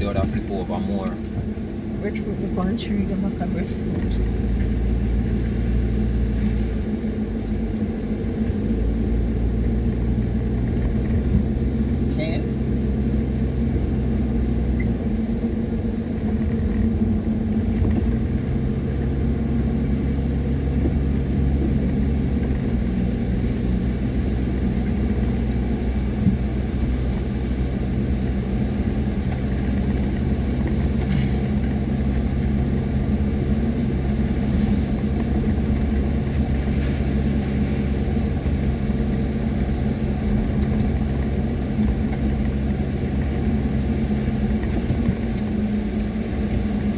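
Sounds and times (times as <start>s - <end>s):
car engine and road rumble: 0.0s - 46.9s.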